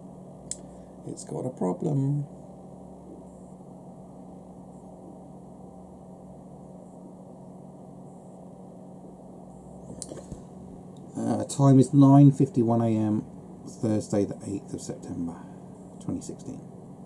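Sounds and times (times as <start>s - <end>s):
low hum with faint hiss: 0.0s - 17.0s.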